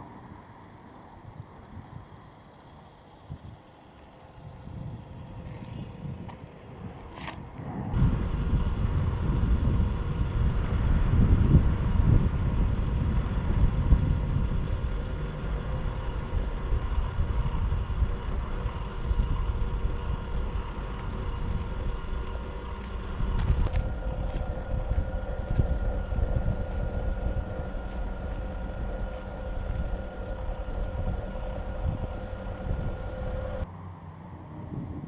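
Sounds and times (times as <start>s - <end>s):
toy car motor rumble and whine: 3.4s - 33.7s.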